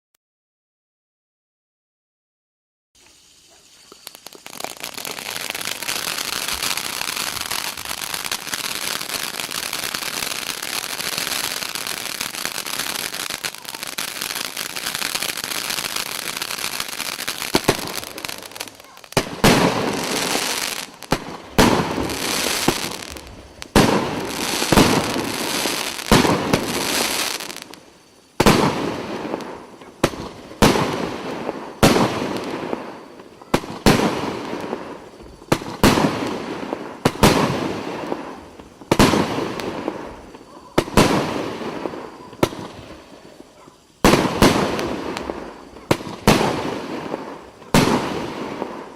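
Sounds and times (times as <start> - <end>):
fireworks crackling hiss: 3.0 - 48.9
fireworks bangs: 3.5 - 48.9.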